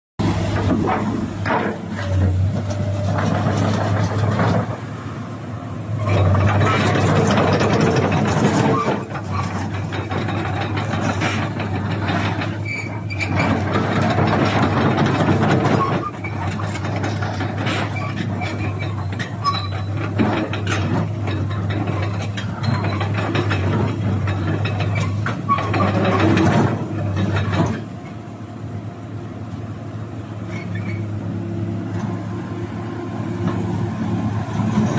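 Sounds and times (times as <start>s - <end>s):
excavator diesel engine under load: 0.2s - 34.9s.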